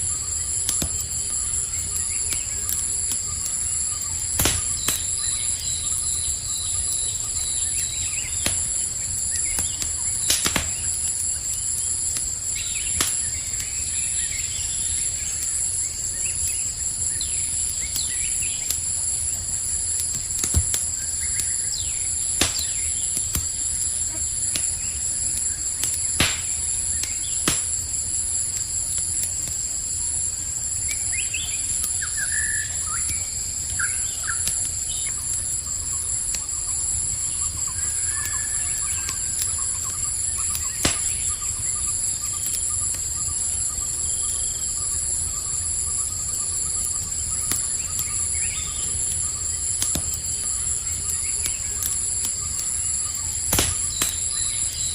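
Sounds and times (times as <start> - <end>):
campfire crackling: 0.0 - 54.9
crickets chirping: 0.0 - 54.9
sharp pops from fire: 0.0 - 54.9.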